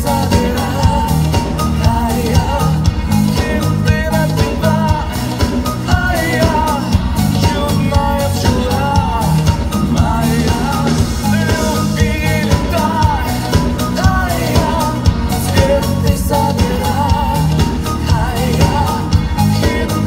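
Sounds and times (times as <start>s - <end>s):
drum kit beat: 0.0s - 20.0s
electric guitars: 0.0s - 20.0s
male lead vocal singing: 0.0s - 20.0s.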